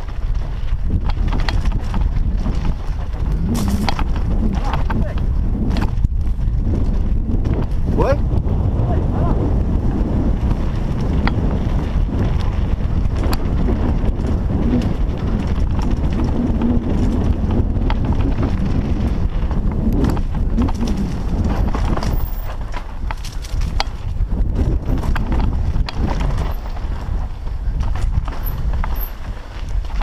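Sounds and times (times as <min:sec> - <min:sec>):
bike clicks and knocks: 0:00.0 - 0:07.8, 0:10.3 - 0:30.0
mountain bike rattling: 0:00.0 - 0:30.0
wind buffeting microphone: 0:00.0 - 0:30.0.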